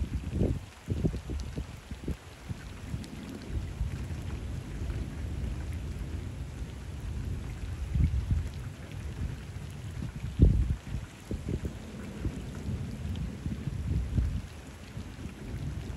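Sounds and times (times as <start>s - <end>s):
rain falling on water: 0.0s - 15.9s
rumble of thunder: 0.0s - 15.9s.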